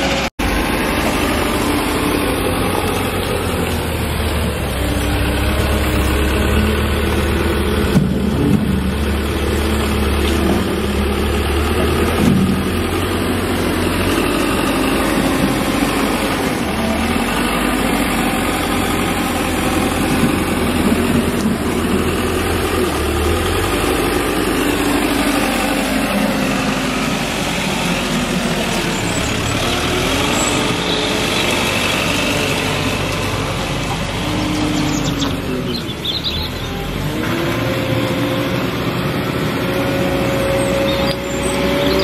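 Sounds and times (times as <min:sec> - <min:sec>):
wheel loader diesel engine running: 0:00.0 - 0:42.0.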